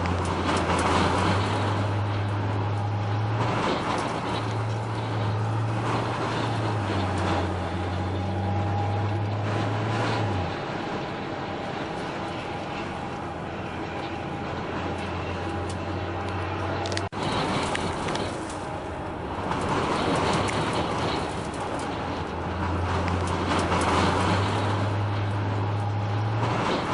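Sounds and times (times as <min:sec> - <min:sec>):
jet engines idling: 0:00.0 - 0:26.9
low drone: 0:00.0 - 0:26.9.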